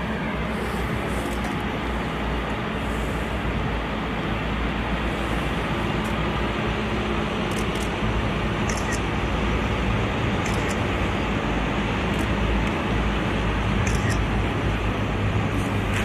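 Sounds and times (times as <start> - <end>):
military vehicles rumbling by: 0.0 - 16.0.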